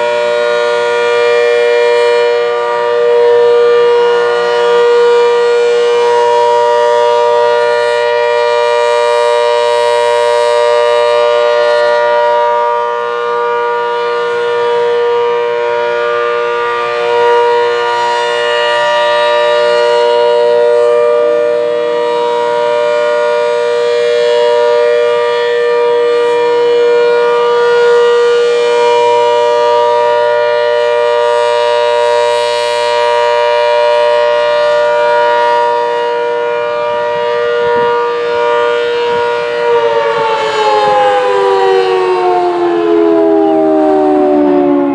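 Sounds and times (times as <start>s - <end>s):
rotating warning siren: 0.0s - 44.9s.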